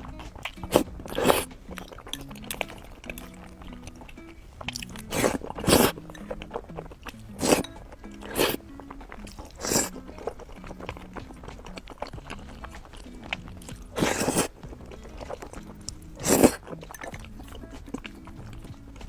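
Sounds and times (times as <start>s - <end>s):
background music: 0.0s - 19.0s
crunchy food being chewed: 0.0s - 19.0s.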